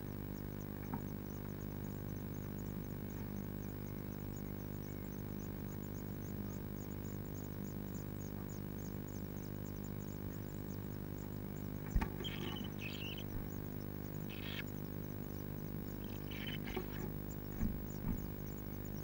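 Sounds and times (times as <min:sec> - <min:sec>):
electrical hum: 0:00.0 - 0:19.0
nestlings begging calls: 0:00.6 - 0:19.0.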